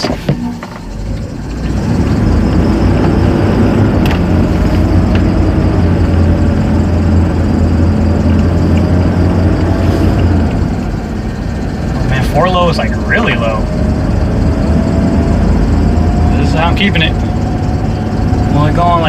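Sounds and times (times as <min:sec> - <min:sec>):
engine humming from inside cab: 0:00.0 - 0:19.0.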